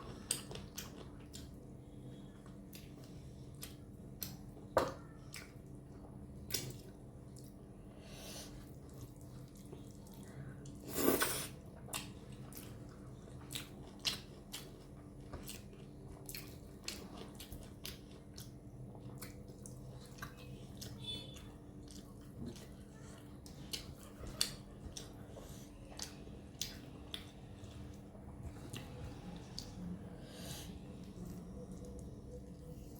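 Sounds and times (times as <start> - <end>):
wet chewing and mouth sounds: 0.0 - 7.8, 8.4 - 32.9.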